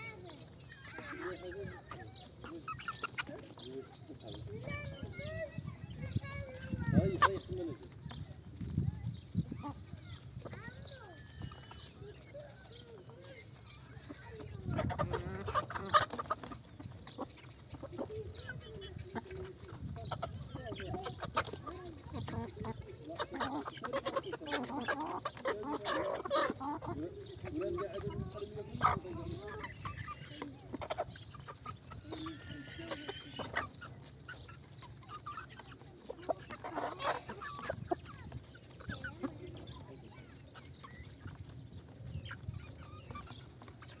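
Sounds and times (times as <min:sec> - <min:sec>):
chickens clucking: 0:00.0 - 0:44.0.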